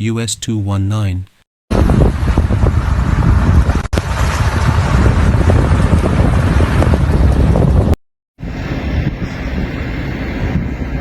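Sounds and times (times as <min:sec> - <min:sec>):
wind buffeting microphone: 0:01.7 - 0:11.0.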